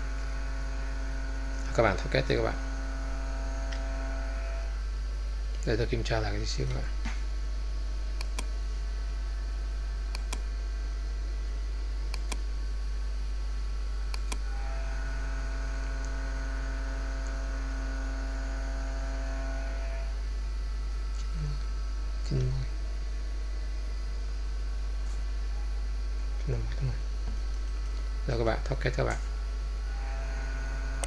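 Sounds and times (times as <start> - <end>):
low electrical hum: 0.0 - 31.0
pitched buzz: 0.0 - 31.0.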